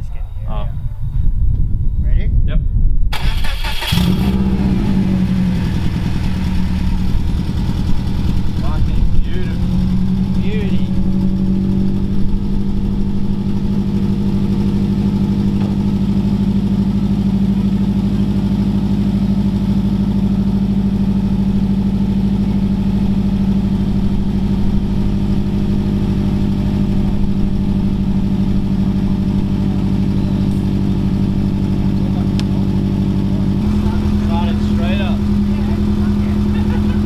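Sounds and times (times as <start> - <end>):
car engine idling: 3.1 - 37.0.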